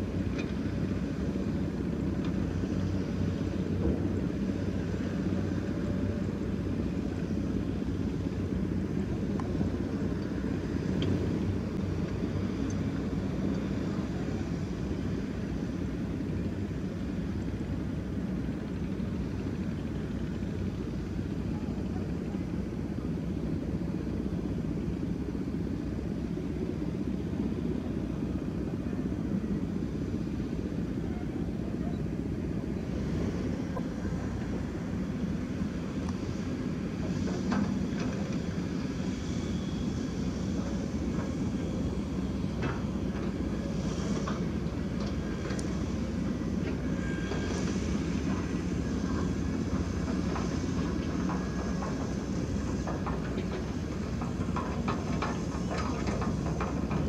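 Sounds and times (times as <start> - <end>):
heavy machinery diesel engines rumbling: 0.0 - 57.0.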